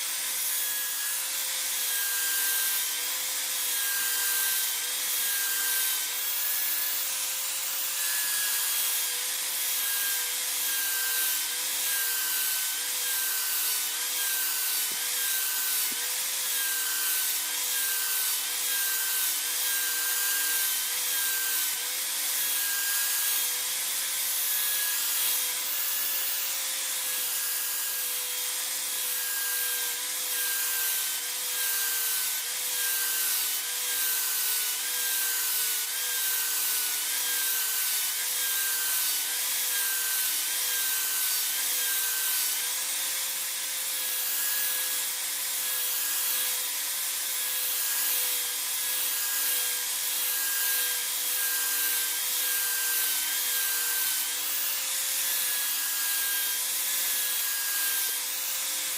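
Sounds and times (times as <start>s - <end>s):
power tool motor running: 0.0s - 58.9s
tool hissing on material: 0.0s - 58.9s.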